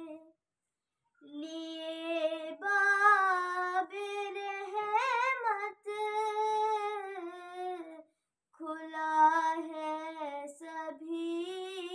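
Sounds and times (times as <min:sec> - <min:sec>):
girl singing unaccompanied: 0:00.0 - 0:00.3, 0:01.2 - 0:08.0, 0:08.6 - 0:11.9.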